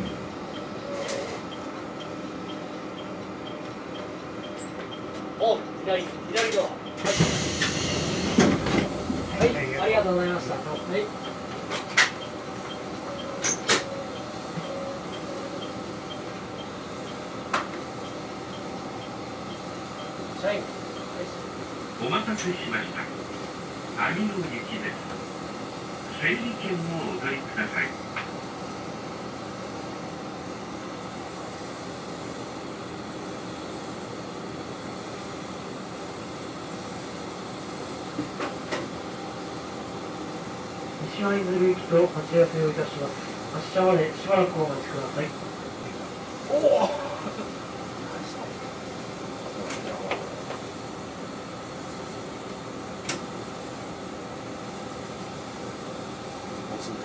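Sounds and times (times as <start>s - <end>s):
diesel railcar idling hum: 0.0s - 49.6s.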